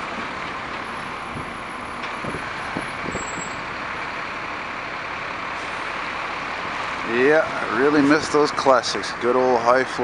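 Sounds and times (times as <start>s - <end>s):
city bus passing: 0.0s - 10.0s
traffic noise: 0.0s - 10.0s.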